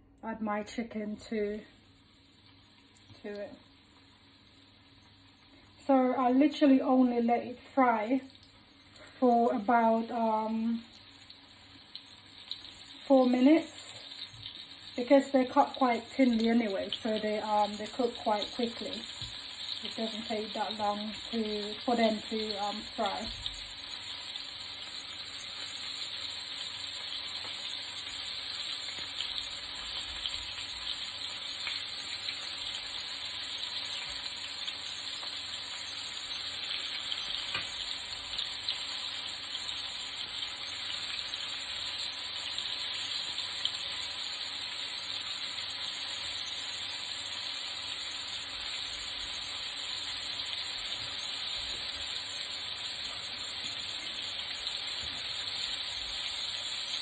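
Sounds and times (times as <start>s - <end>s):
chicken sizzling in oil: 1.3s - 57.0s.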